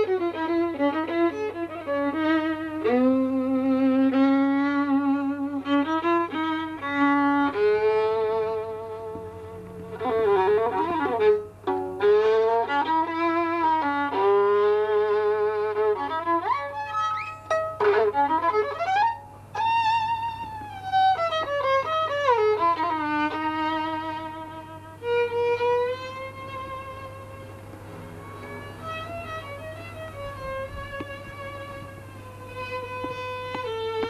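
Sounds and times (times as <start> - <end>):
faint steady hum: 0.0 - 34.0
solo melody instrument with vibrato: 0.0 - 34.0.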